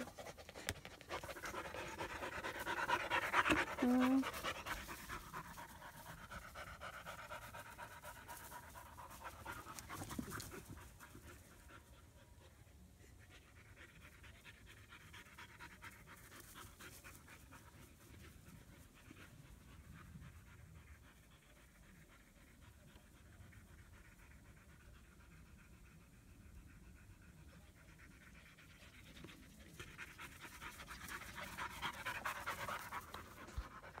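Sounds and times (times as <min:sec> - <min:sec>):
puppy panting: 0:00.0 - 0:34.0.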